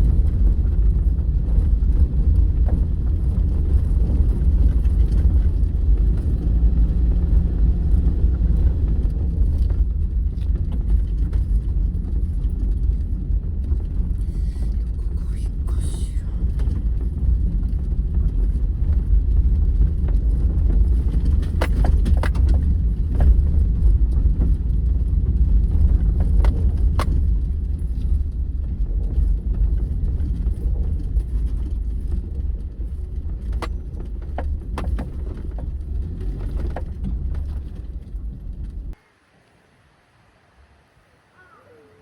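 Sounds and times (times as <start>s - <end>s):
car interior rumble: 0.0s - 39.0s.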